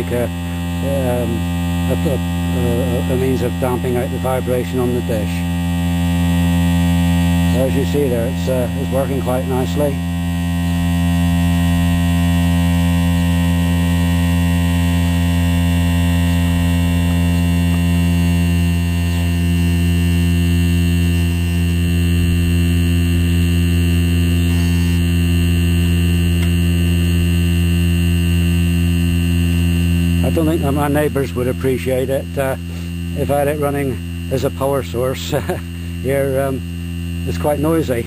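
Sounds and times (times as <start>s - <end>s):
generator buzzing loudly: 0.0s - 38.0s.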